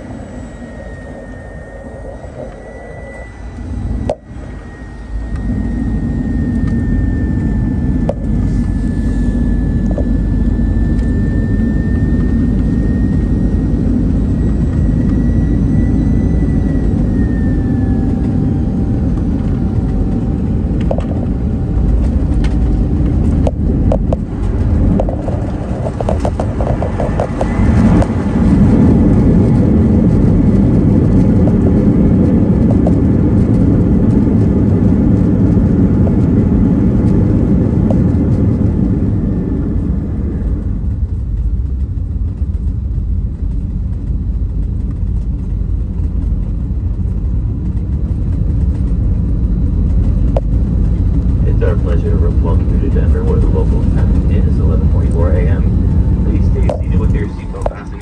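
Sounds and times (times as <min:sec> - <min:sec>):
high whine sliding down: 0:00.0 - 0:42.8, 0:46.2 - 0:58.0
jet engine rumble in cabin: 0:00.0 - 0:58.0.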